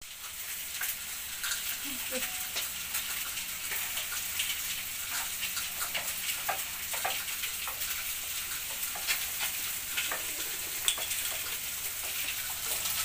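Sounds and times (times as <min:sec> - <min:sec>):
meat sizzling in a pan: 0:00.0 - 0:13.0
spatula scraping and tapping pan: 0:02.4 - 0:13.0.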